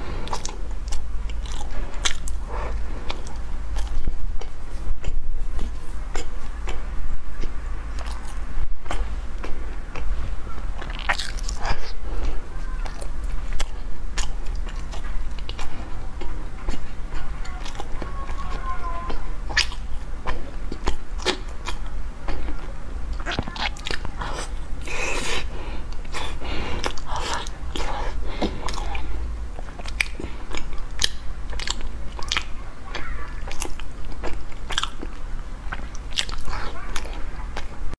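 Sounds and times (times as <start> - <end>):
crunchy pastry chewing: 0.0 - 37.8
steady low hum: 0.0 - 37.9.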